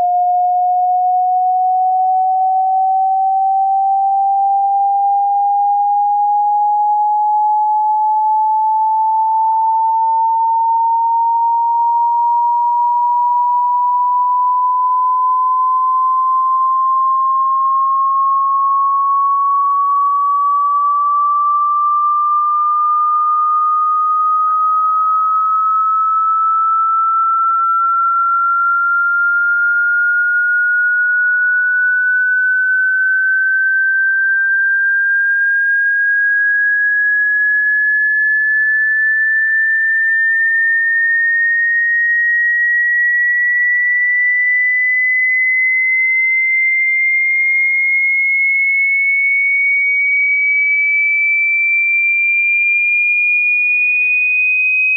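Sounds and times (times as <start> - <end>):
rising sine test tone: 0.0 - 54.9.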